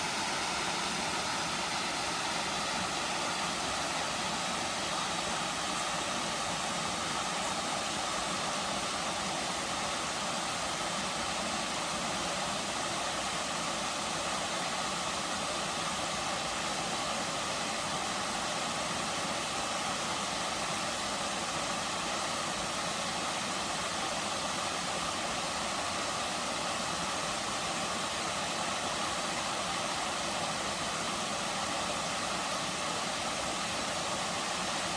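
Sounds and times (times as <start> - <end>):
waterfall hissing: 0.0 - 34.9.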